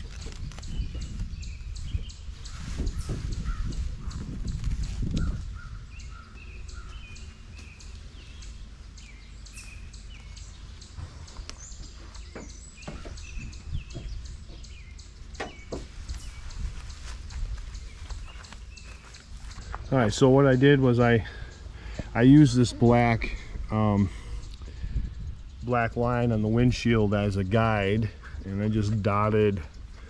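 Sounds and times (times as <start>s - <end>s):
wind buffeting microphone: 0.0s - 8.8s, 10.8s - 20.4s, 21.2s - 30.0s
small birds chirping: 0.0s - 30.0s.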